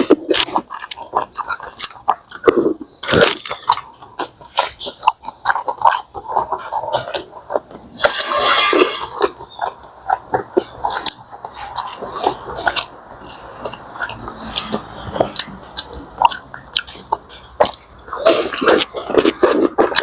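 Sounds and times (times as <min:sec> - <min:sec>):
person chewing and biting: 0:00.0 - 0:20.0.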